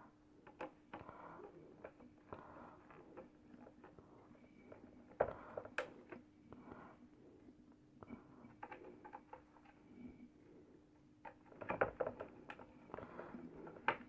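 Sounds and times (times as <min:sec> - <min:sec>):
steady faint hum: 0:00.0 - 0:14.0
faint clicks taps and scraping: 0:00.4 - 0:07.0, 0:07.7 - 0:10.0, 0:10.9 - 0:14.0.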